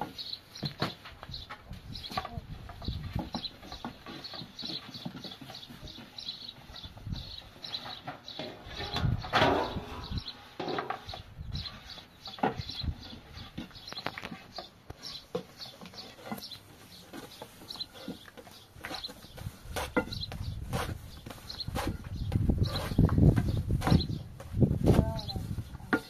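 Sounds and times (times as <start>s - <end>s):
scraping rustle: 0.0s - 26.0s
small birds chirping: 0.0s - 26.0s.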